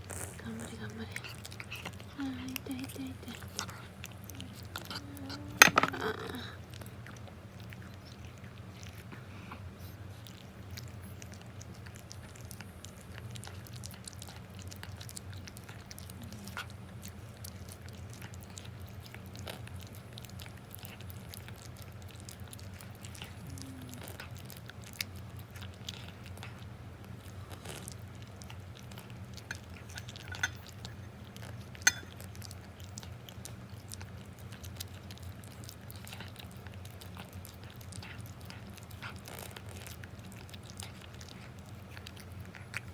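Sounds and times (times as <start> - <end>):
cat chewing and licking: 0.0 - 42.9.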